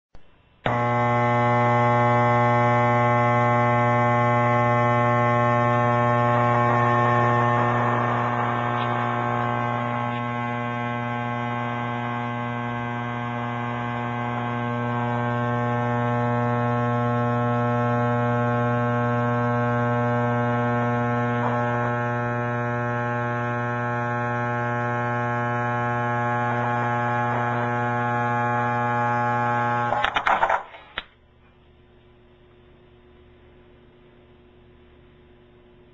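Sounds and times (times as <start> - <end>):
subwoofer buzzing distorted tone: 0.2 - 35.9.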